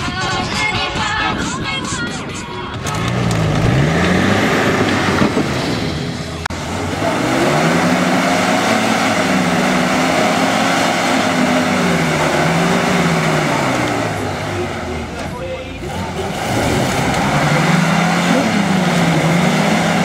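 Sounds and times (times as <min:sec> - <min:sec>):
engine revving: 0:02.7 - 0:20.0.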